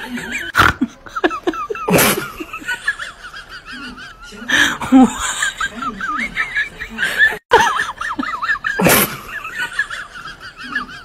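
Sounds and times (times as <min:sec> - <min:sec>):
high wavering laughter: 0:00.0 - 0:11.0.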